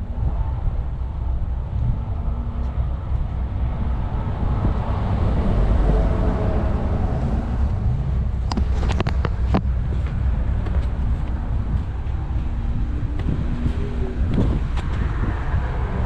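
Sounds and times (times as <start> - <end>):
vehicle rumble: 0.0 - 16.0
wind buffeting microphone: 0.0 - 16.0.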